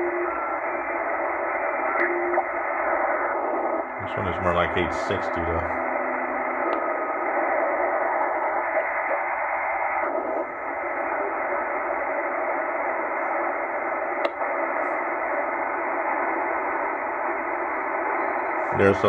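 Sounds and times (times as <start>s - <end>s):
radio band noise: 0.0s - 19.0s.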